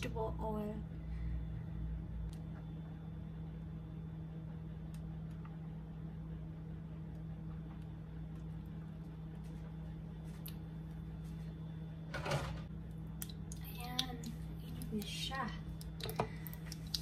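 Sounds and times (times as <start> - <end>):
kitchen appliance humming: 0.8 - 17.0.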